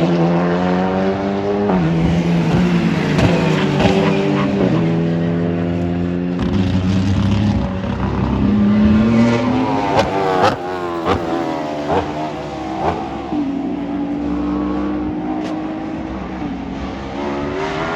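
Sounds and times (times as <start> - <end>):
racing car engine revving: 0.0 - 17.9.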